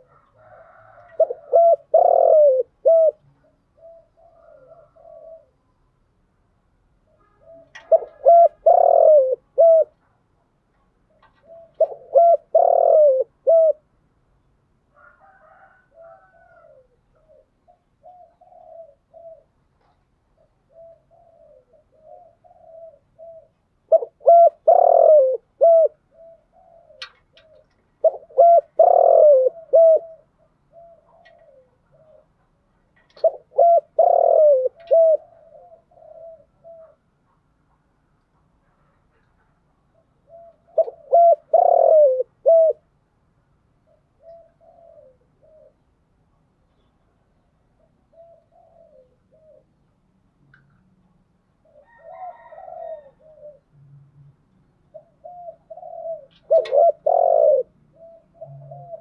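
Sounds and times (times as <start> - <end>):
dove cooing: 0.0 - 5.8, 7.1 - 10.0, 11.1 - 13.9, 15.0 - 37.3, 39.9 - 43.0, 43.8 - 46.0, 47.7 - 50.0, 51.6 - 59.0.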